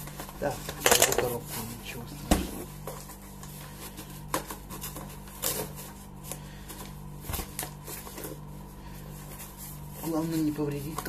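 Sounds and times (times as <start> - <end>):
cardboard rustling and scraping: 0.0 - 11.0
low steady hum: 0.0 - 11.0.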